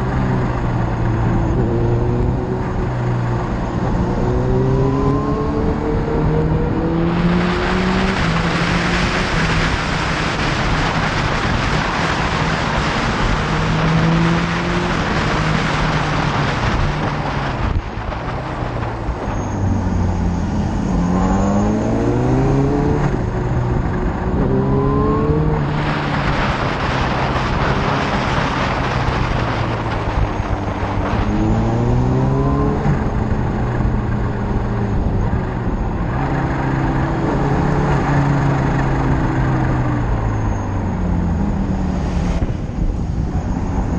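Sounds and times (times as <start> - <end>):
motorcycle engine accelerating: 0.0 - 43.9
wind rush: 0.0 - 43.9.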